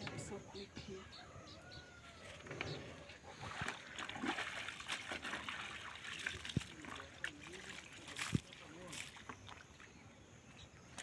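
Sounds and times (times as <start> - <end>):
water splashing and trickling: 2.2 - 11.0.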